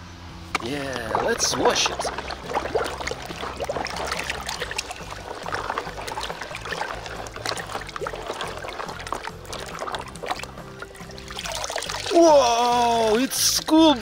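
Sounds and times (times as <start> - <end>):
water sloshing in a basin: 0.5 - 14.0.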